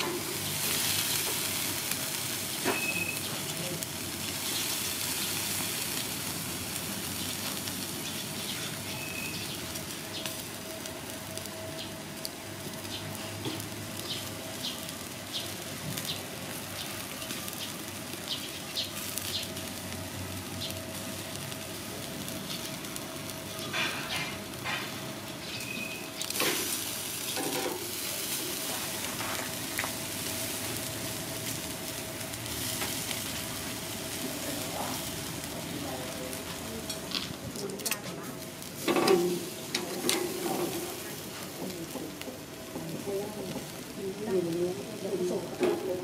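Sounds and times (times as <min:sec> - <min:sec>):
meat sizzling on a grill: 0:00.0 - 0:46.0.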